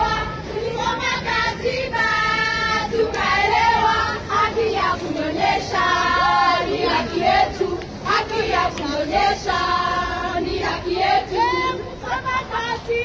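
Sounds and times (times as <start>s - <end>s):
crowd singing in unison: 0.0s - 13.0s.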